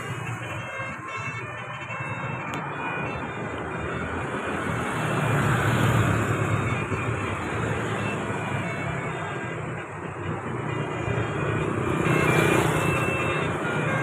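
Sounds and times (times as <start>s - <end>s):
bus passing close by: 0.0s - 14.0s.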